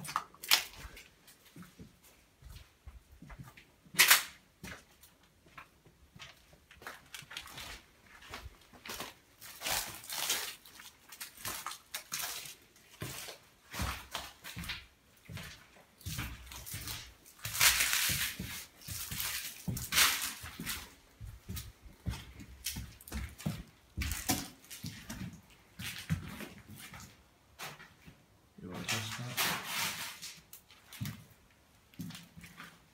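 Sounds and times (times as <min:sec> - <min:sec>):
footsteps crunching over debris: 0:00.0 - 0:32.9.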